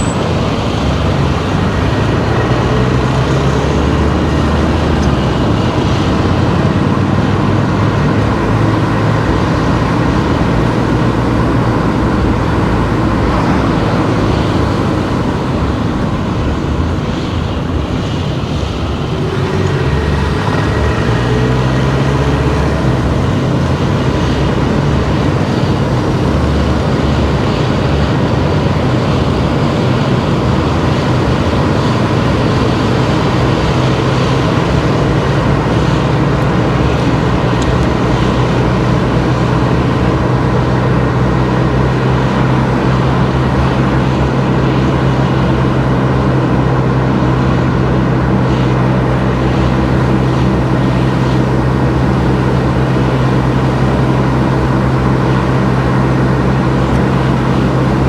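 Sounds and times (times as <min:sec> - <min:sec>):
car engine hum: 0:00.0 - 0:58.0
road and tyre noise: 0:00.0 - 0:58.0.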